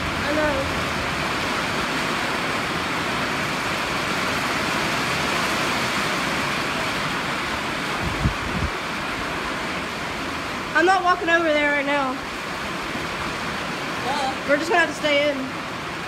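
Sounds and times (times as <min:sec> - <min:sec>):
rain: 0:00.0 - 0:16.0
wind: 0:00.0 - 0:16.0.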